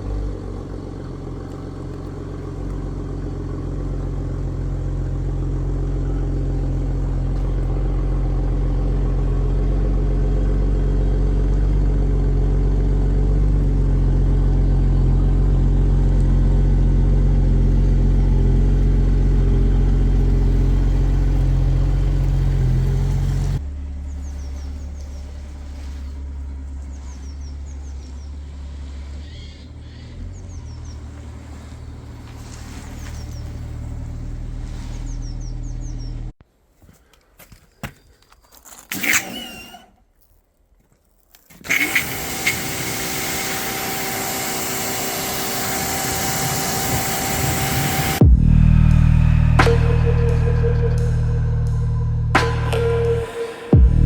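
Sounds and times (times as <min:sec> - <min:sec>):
car engine idling: 0:00.0 - 0:36.4, 0:41.7 - 0:54.0.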